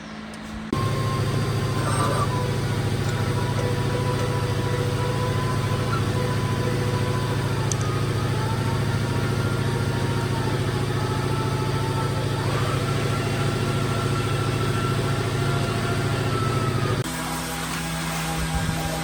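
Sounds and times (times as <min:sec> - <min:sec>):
motor humming with faint whine: 0:00.0 - 0:19.0.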